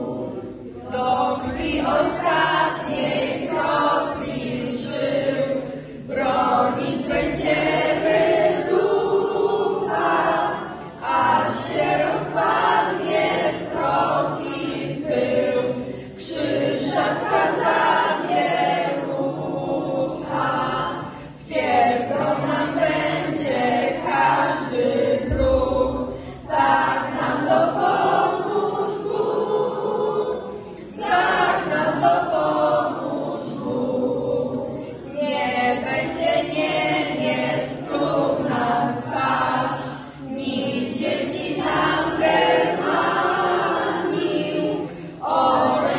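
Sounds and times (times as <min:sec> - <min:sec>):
choir singing unaccompanied: 0:00.0 - 0:45.9.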